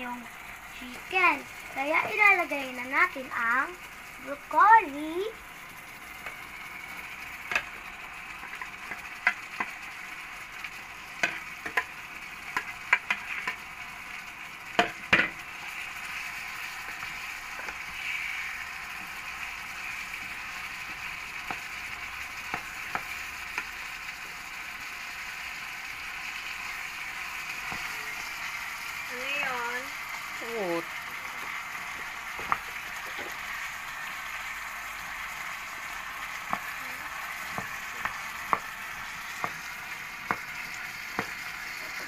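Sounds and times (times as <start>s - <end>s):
chicken sizzling in oil: 0.0s - 42.0s.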